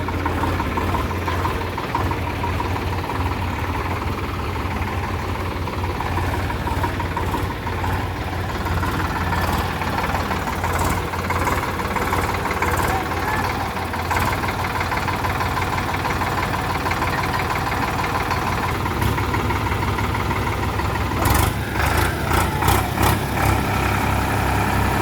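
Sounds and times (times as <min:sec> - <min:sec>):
diesel tractor engine running: 0:00.0 - 0:25.0.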